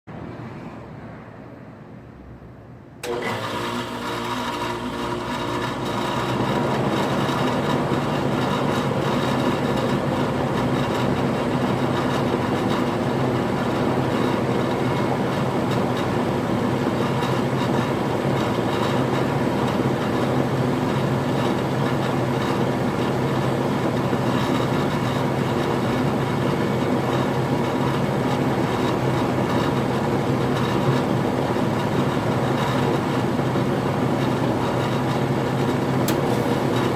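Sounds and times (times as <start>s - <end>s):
air conditioner hum and whir: 0.1s - 36.9s.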